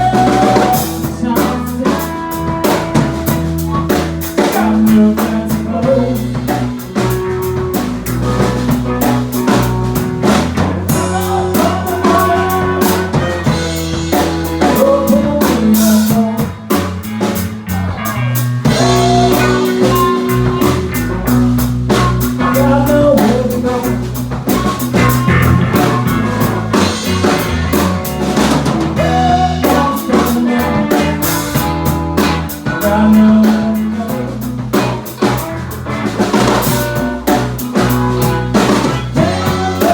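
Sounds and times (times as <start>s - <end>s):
bass line: 0.0s - 39.9s
blues-rock band playing: 0.0s - 39.9s
guitar with bent sliding notes: 0.0s - 39.9s.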